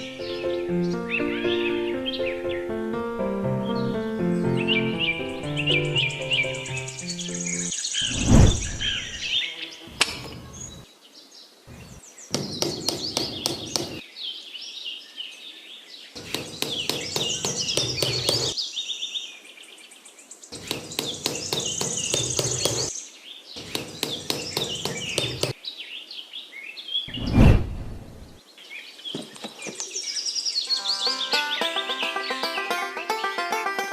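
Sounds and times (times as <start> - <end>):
birds chirping: 0.0 - 2.8, 3.6 - 33.9.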